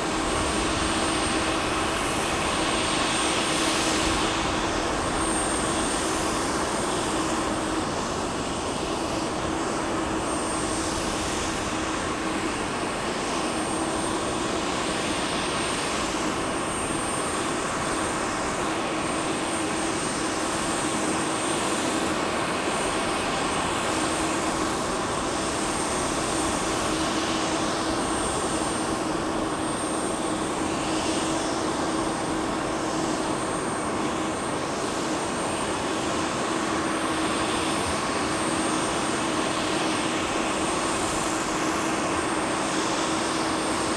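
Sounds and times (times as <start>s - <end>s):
jet turbine running: 0.0s - 43.9s.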